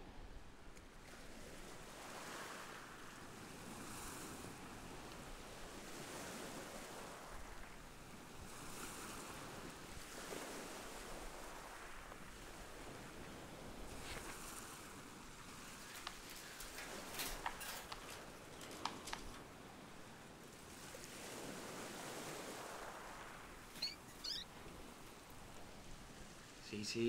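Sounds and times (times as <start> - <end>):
small waves breaking on beach: 0.0 - 27.0.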